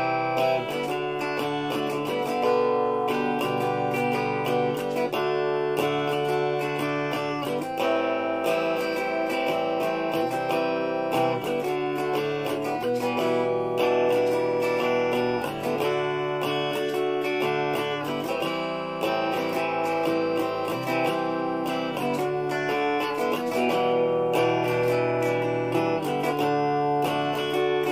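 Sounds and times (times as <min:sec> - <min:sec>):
electric guitar strumming chords: 0:00.0 - 0:27.9.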